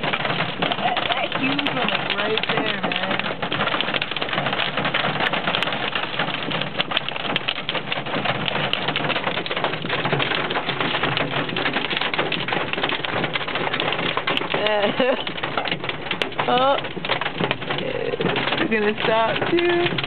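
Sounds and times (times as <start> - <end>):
hail and rain drumming on car roof: 0.0 - 20.0.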